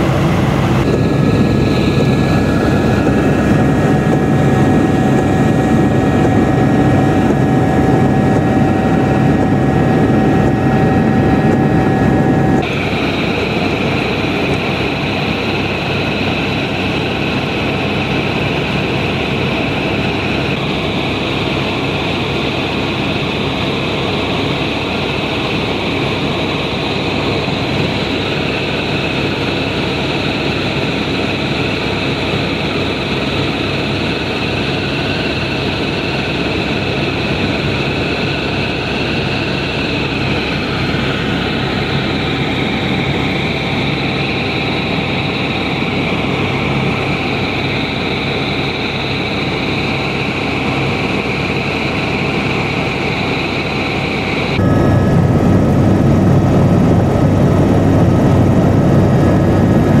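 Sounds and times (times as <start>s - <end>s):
helicopter rotor and engine rumble: 0.0s - 60.0s
high turbine whine: 0.0s - 60.0s.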